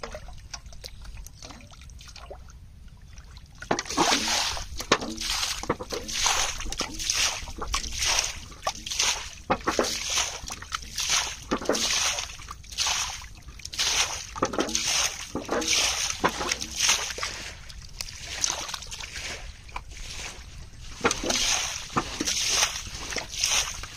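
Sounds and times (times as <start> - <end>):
hands splashing in muddy water: 3.6 - 23.9.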